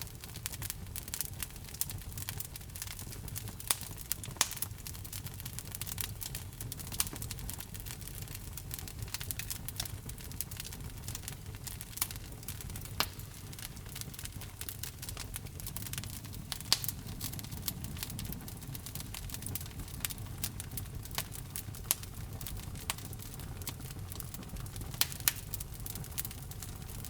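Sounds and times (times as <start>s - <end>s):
flame rumble: 0.0s - 27.0s
wood fire crackling: 0.0s - 27.0s.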